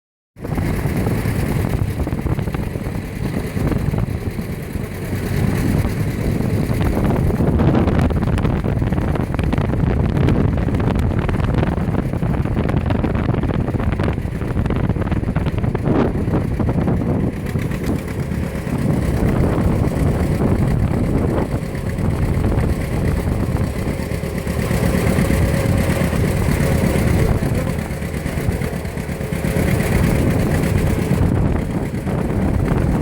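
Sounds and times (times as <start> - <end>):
tractor engines rumbling: 0.4 - 33.0
wind buffeting microphone: 0.4 - 33.0.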